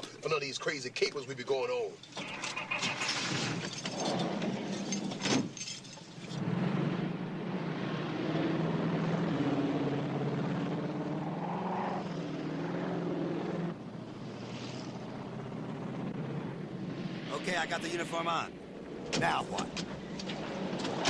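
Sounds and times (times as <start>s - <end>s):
propeller aircraft engine drone: 3.7s - 21.0s.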